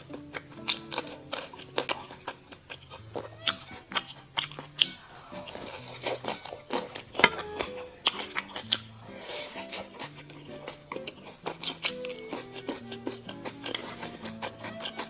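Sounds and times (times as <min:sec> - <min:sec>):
crunchy chewing of food: 0:00.0 - 0:15.0.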